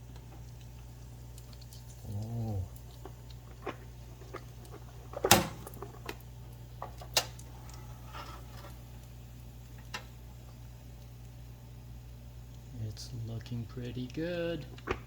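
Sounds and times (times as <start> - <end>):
fat crackling and popping: 0.0 - 15.0.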